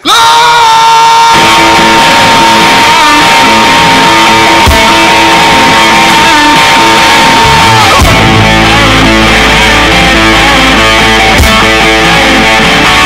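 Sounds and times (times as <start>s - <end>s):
rock music with electric guitar: 1.2s - 13.0s.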